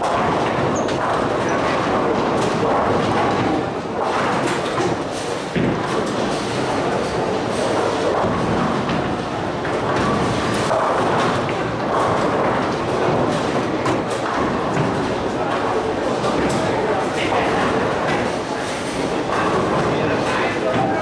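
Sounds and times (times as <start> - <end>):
bowling balls rolling: 0.0 - 21.0
bowling pins clattering: 0.0 - 21.0.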